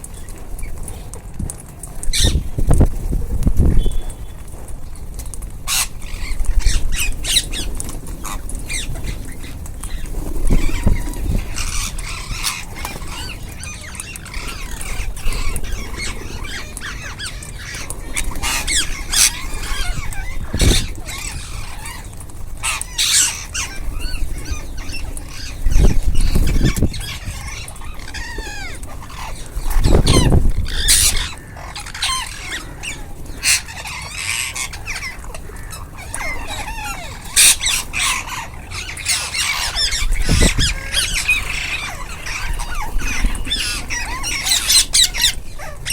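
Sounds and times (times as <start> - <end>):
parrots squawking and chattering: 0.0 - 45.9.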